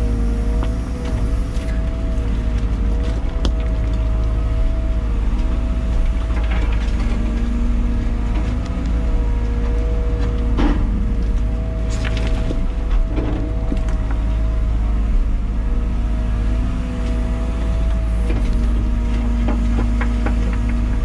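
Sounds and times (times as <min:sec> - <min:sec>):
diesel engine with whine: 0:00.0 - 0:21.0.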